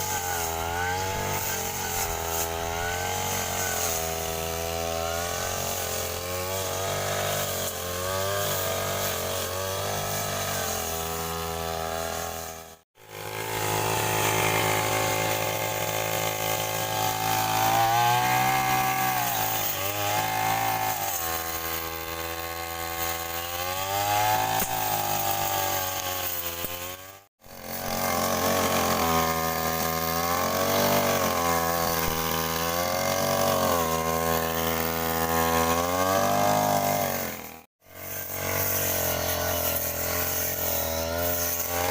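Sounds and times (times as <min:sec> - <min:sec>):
grass cutter engine revving: 0:00.0 - 0:41.9.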